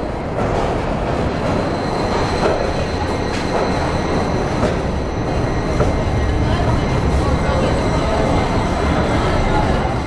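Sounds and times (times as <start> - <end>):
underground train rumbling: 0.0 - 10.0
high-pitched whine: 1.4 - 10.0.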